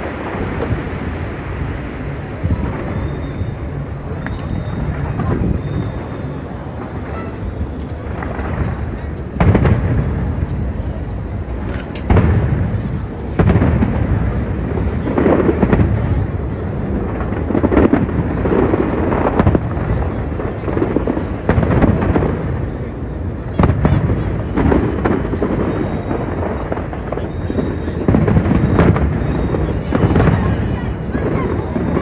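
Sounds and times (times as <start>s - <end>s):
continuous rumble: 0.0s - 32.0s
fireworks booming: 0.0s - 32.0s.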